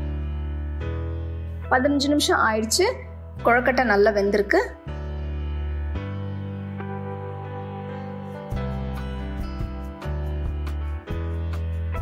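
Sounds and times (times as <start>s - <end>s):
soft instrumental music: 0.0s - 12.0s.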